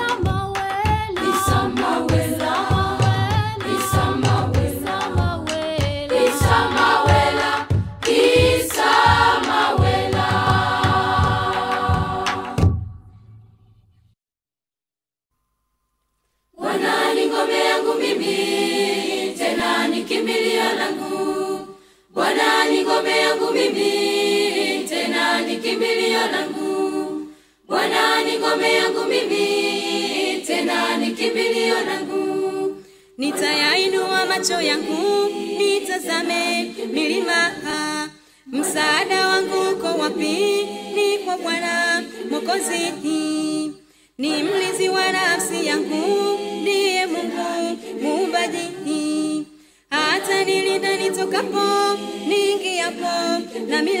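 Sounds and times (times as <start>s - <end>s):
unaccompanied choir singing: 0.0s - 12.8s, 16.6s - 54.0s.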